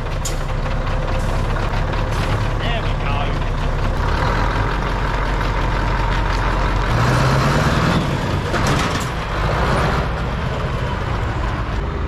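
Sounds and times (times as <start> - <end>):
truck diesel engine accelerating: 0.0 - 12.0.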